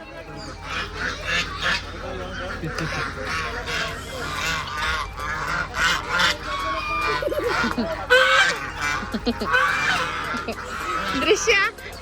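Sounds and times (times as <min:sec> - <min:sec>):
farm birds calling noisily: 0:00.0 - 0:12.0.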